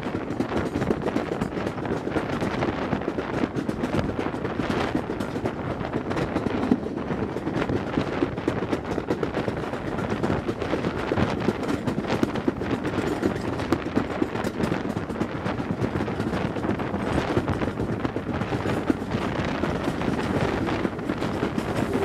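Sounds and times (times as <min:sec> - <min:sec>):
train wheels clattering on track: 0:00.0 - 0:22.0
wind rushing: 0:01.5 - 0:22.0.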